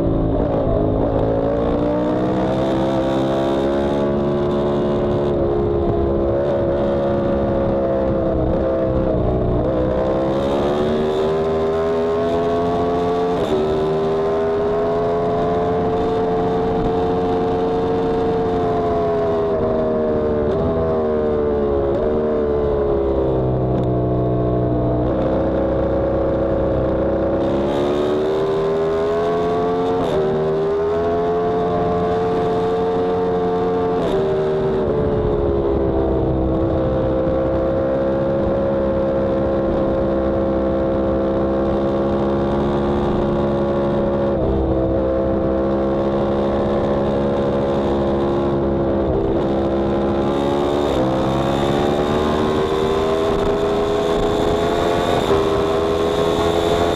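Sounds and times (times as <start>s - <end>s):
motorcycle engine at speed: 0.0s - 56.9s.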